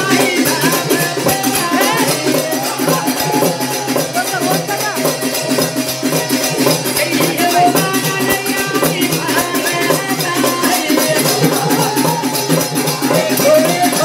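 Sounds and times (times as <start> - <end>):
person singing: 0.0 - 5.1, 6.0 - 14.0
hand drum beat: 0.0 - 14.0
jingling tambourine: 0.0 - 14.0.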